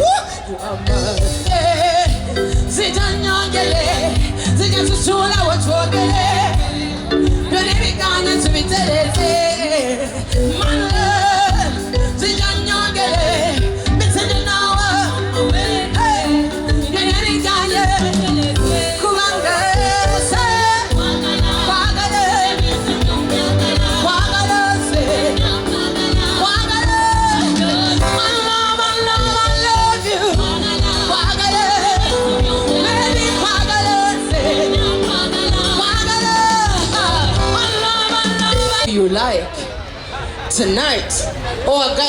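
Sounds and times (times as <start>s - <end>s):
woman singing: 0.0s - 39.2s.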